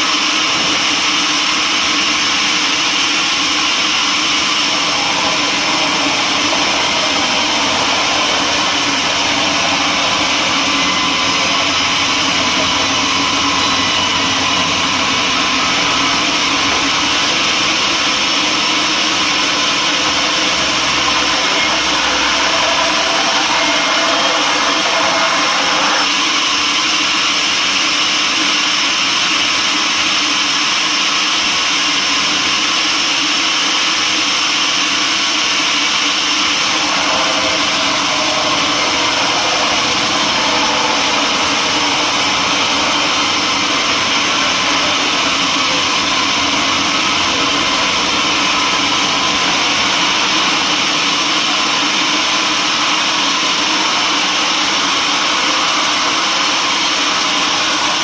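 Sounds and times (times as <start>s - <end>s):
sawmill machinery sawing logs: 0.0s - 27.2s, 34.7s - 58.0s.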